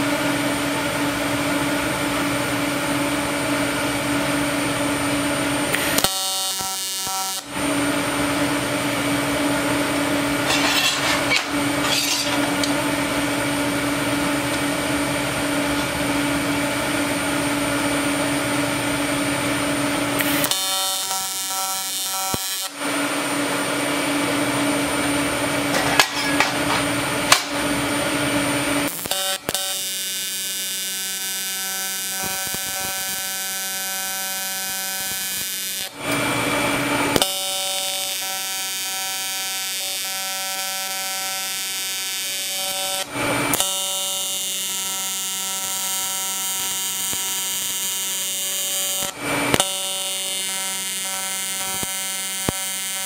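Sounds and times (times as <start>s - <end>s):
welding arc buzzing: 4.1s - 53.0s.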